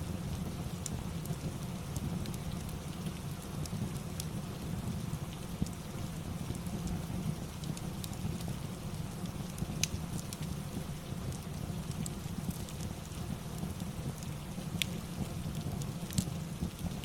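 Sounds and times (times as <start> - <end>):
fire crackling and popping: 0.0 - 17.0
steady rain: 0.0 - 17.0.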